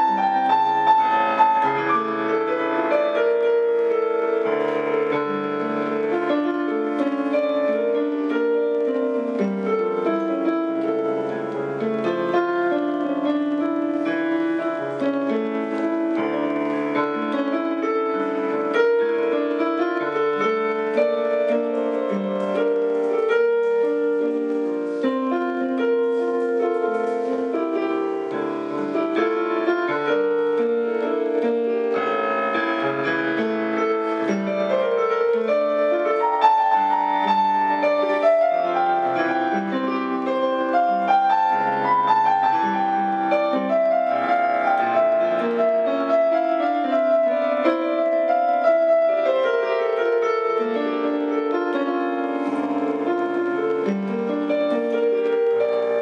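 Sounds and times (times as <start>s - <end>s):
solo piano music: 0.0s - 56.0s.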